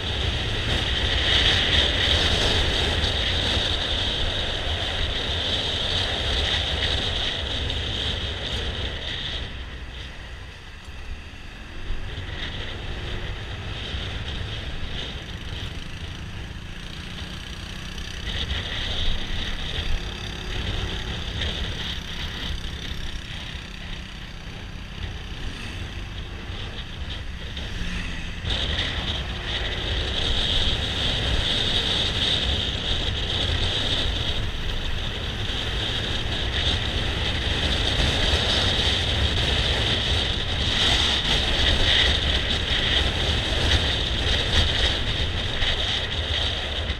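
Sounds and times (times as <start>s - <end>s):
road noise: 0.0s - 46.9s
wind rushing over microphone: 0.0s - 46.9s.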